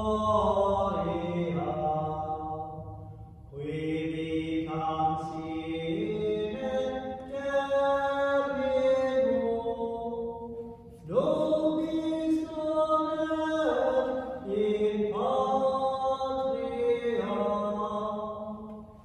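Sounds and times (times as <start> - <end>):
chant-like devotional singing: 0.0 - 19.0.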